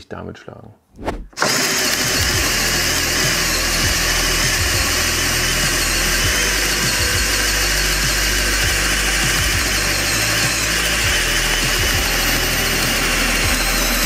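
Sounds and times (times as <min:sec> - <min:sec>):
drill boring into wood: 0:01.4 - 0:14.0.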